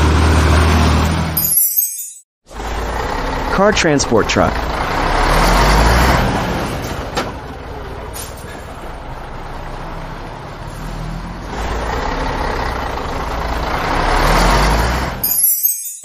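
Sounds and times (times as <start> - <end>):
heavy truck engine rumble: 0.0 - 1.4, 2.5 - 15.3.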